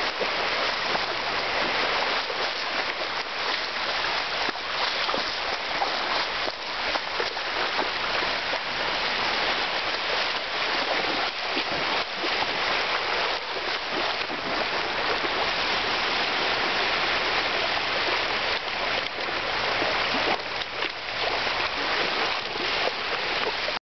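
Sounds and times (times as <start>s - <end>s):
dog splashing in water: 0.0s - 23.8s
sea surf washing onto beach: 0.0s - 23.8s.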